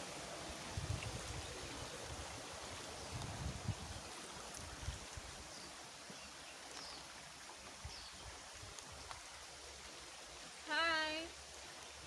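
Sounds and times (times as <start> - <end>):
flowing stream: 0.0 - 12.0.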